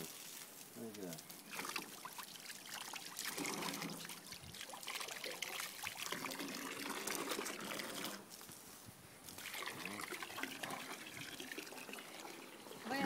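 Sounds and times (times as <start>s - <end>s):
garden hose spraying water: 0.0s - 8.4s, 9.3s - 13.0s.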